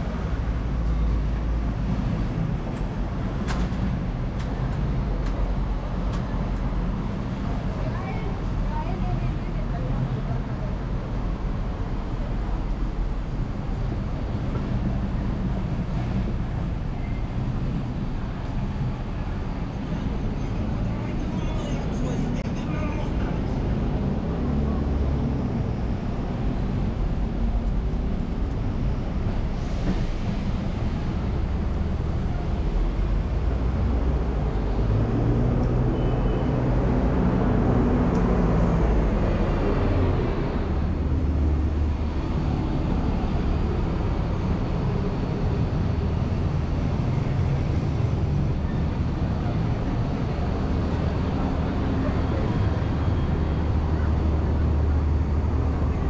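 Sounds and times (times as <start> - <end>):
passing vehicle engine hum: 0.0 - 56.0
street traffic rumble: 0.0 - 56.0.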